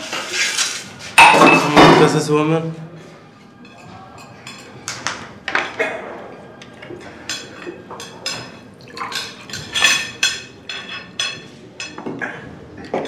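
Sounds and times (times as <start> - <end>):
dishes and glassware clinking: 0.0 - 2.3, 3.4 - 13.0.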